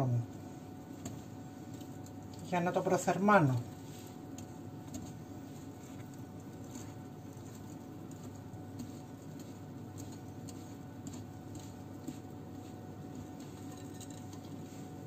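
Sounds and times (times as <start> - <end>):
steady low hum: 0.0 - 15.0
whisk stirring thick batter: 0.2 - 15.0.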